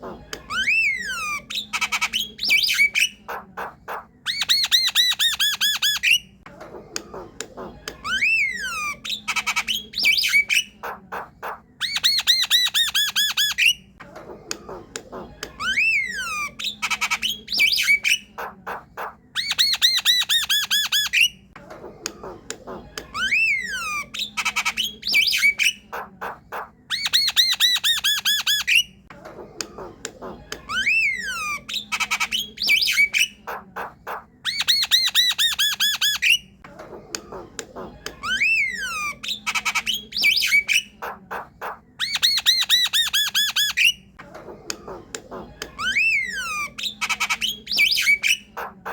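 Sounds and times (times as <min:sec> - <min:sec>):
myna squawks and chatter: 0:00.0 - 0:48.9.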